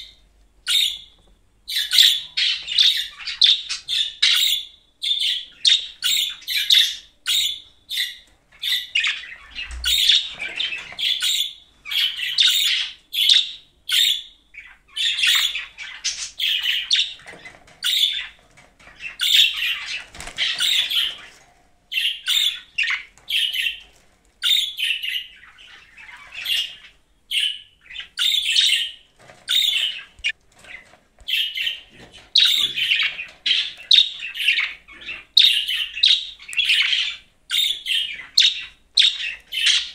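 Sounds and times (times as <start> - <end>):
budgerigar chirping and chattering: 0.0 - 1.1, 1.7 - 18.4, 19.0 - 21.3, 21.9 - 23.8, 24.4 - 39.9.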